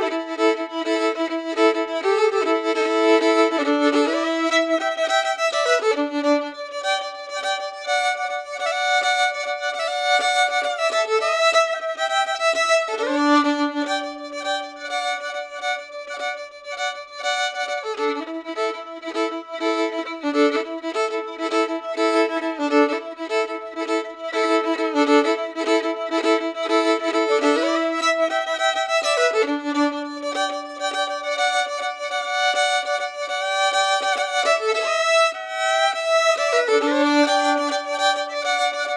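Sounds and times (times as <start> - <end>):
solo violin melody: 0.0 - 38.9.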